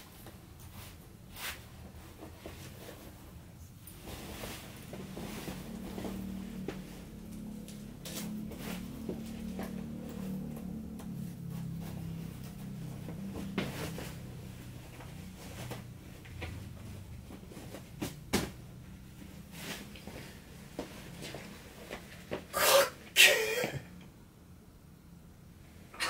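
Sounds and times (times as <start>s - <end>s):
low steady hum: 0.0s - 26.0s
clothes rustling: 0.1s - 22.5s.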